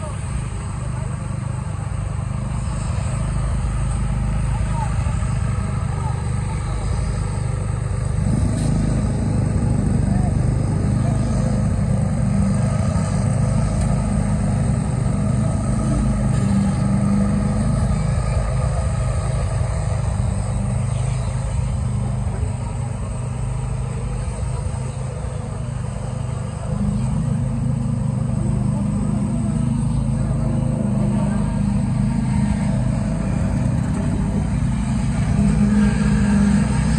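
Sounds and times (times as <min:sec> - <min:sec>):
pumping machinery engine drone: 0:00.0 - 0:36.9.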